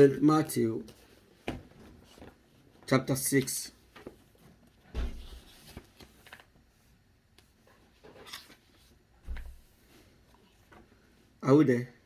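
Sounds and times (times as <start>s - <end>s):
paper pages rustling: 0.8s - 11.1s.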